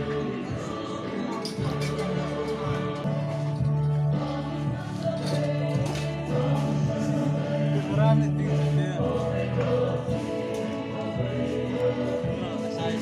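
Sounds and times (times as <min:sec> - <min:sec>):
choir singing sustained notes: 0:00.0 - 0:13.0.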